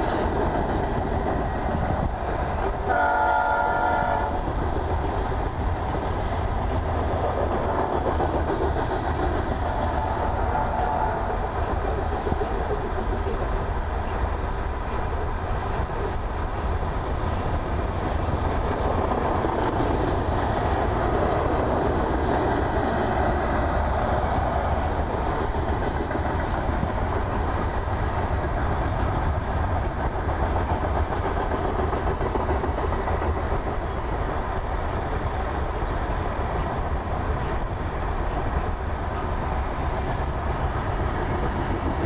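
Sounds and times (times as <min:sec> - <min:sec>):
freight train rolling past: 0:00.0 - 0:42.0.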